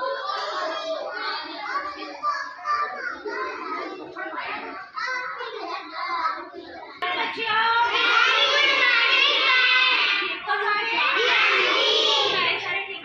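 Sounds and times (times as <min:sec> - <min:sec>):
child talking: 0:00.0 - 0:13.0.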